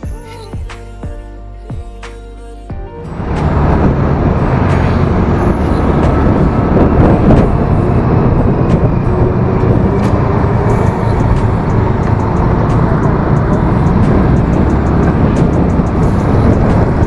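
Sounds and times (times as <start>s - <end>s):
scooter engine running: 3.1s - 17.0s
wind rush over microphone: 3.1s - 17.0s.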